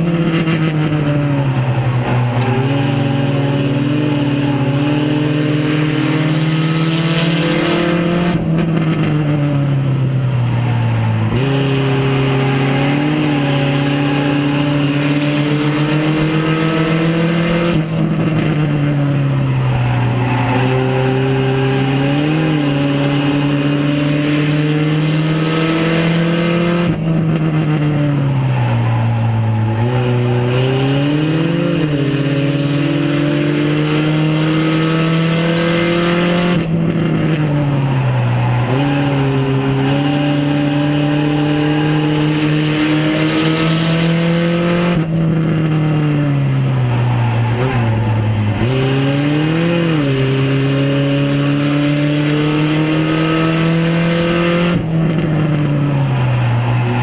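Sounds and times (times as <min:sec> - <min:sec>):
race car engine at high revs: 0:00.0 - 0:57.0.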